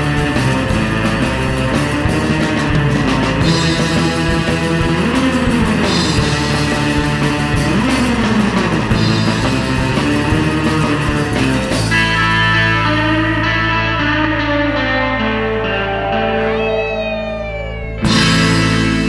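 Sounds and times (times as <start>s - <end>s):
instrumental surf rock music: 0.0s - 19.0s.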